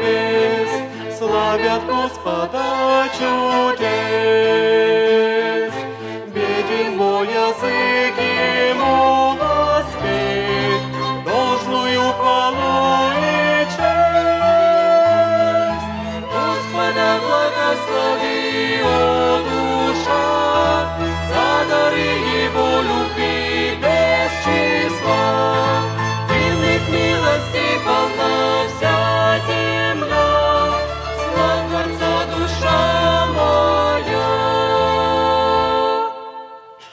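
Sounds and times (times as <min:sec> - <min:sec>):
bowed strings playing hymn: 0:00.0 - 0:36.9
voices singing: 0:00.0 - 0:36.9.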